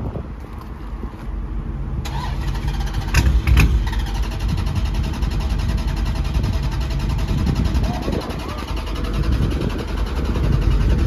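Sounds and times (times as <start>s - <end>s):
car engine starting and running: 0.1s - 11.0s.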